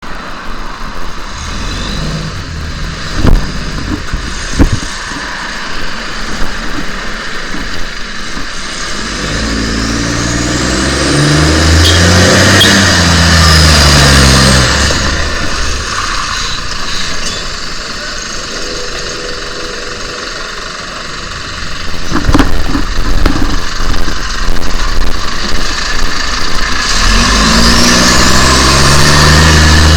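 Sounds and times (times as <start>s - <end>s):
high whine: 0.0s - 29.9s.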